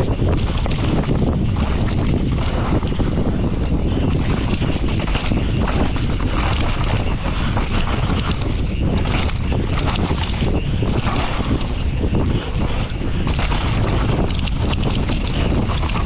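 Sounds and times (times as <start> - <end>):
bike rattling over rough ground: 0.0 - 16.0
wind buffeting microphone: 0.0 - 16.0.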